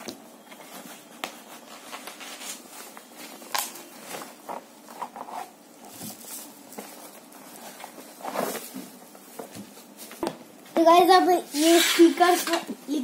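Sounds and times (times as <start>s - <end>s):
cardboard and plastic rustling: 0.0s - 12.4s.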